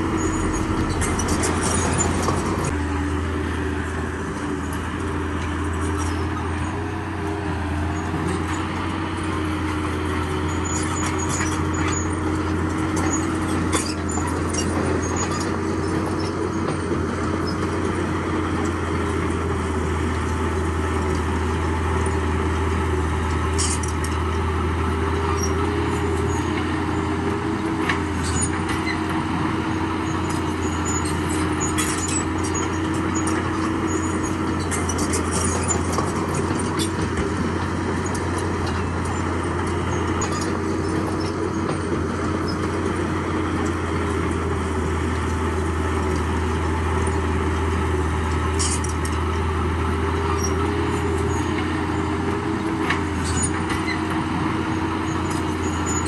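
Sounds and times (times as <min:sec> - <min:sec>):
diesel engine of heavy machinery: 0:00.0 - 0:56.0.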